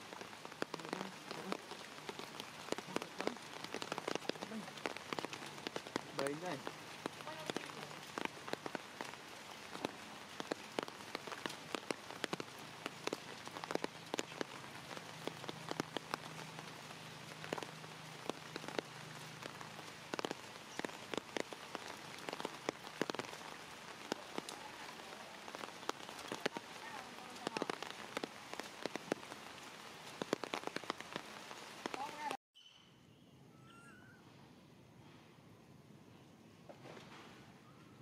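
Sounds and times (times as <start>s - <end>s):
rain falling: 0.0s - 32.4s
raindrops striking hard surfaces: 0.0s - 32.4s.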